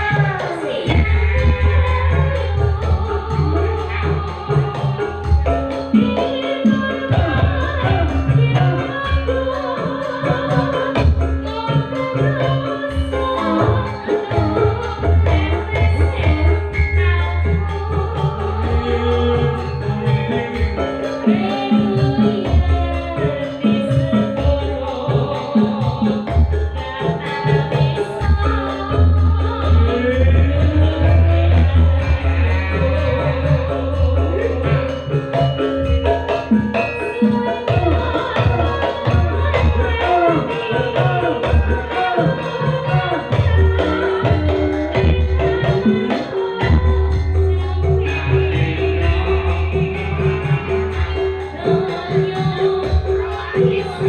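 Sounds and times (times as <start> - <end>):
jingling percussion: 0.0 - 54.0
person singing: 0.0 - 54.0.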